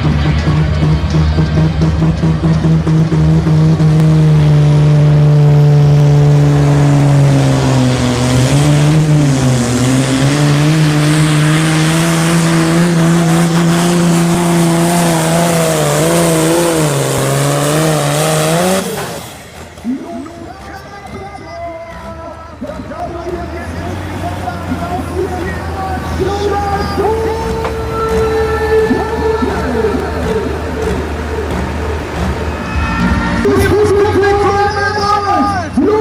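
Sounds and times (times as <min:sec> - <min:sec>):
tractor engine at full throttle: 0:00.0 - 0:36.0.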